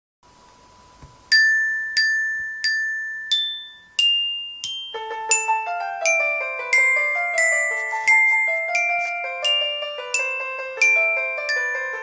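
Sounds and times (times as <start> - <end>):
glockenspiel notes: 1.3 - 12.0.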